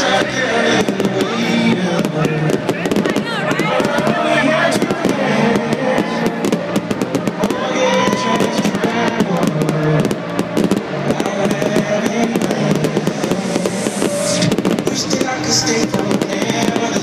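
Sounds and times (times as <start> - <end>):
electronic dance music: 0.0 - 17.0
fireworks banging and crackling: 0.0 - 17.0.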